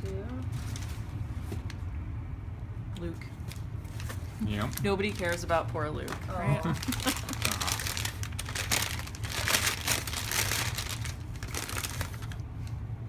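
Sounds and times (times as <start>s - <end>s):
wrapping crinkling: 0.4s - 1.8s, 3.4s - 12.8s.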